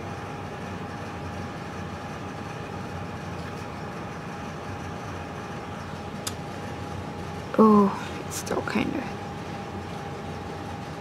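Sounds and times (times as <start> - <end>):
background hum and hiss: 0.0 - 11.0
thin steady whine: 0.0 - 11.0.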